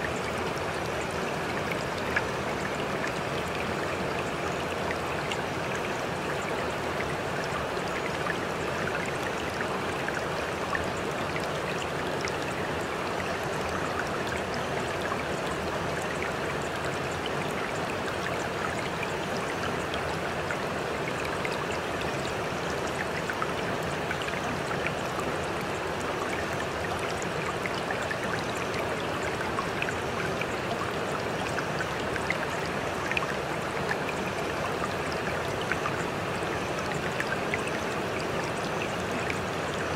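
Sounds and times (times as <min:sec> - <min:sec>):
running water stream: 0:00.0 - 0:39.9.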